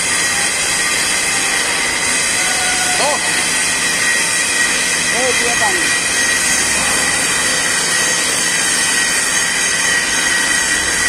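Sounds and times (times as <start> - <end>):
welding hiss with high whine: 0.0 - 11.0.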